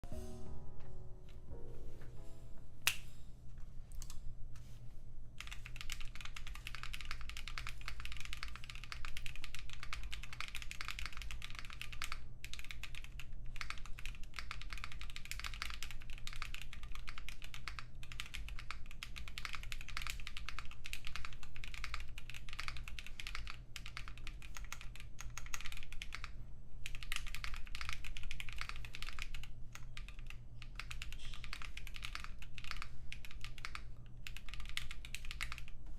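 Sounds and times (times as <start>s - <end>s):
mechanical keyboard typing: 5.4s - 35.8s.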